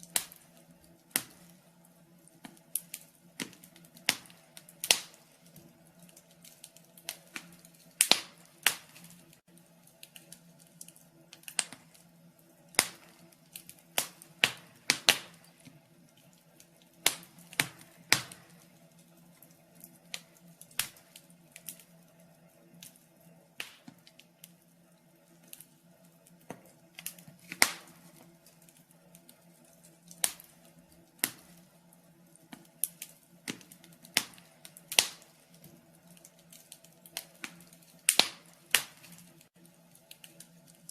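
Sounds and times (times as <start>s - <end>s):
faint steady hum: 0.0s - 40.9s
wood fire crackling and popping: 0.0s - 40.9s.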